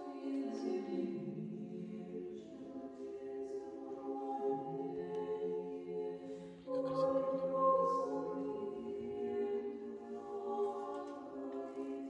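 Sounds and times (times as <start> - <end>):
women's choir chanting a cappella: 0.0 - 12.0.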